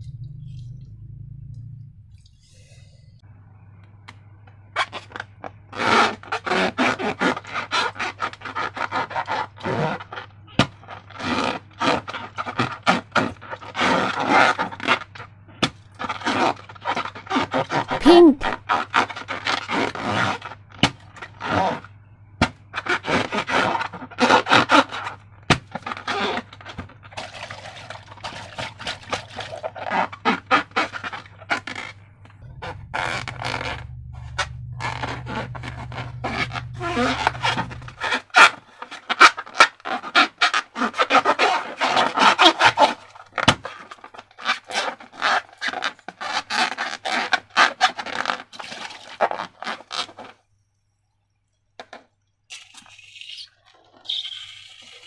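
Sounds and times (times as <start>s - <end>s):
slime squelching and crackling: 4.8s - 50.3s.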